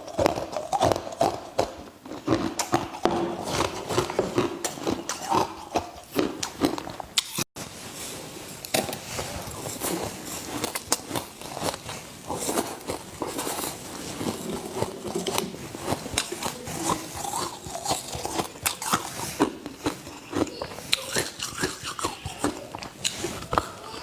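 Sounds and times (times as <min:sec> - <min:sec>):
ice crunching while chewed: 0:00.0 - 0:07.5, 0:08.7 - 0:24.0.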